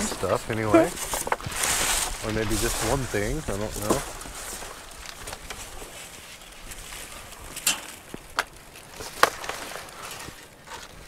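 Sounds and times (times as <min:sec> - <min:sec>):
low rustling: 0:00.0 - 0:11.0.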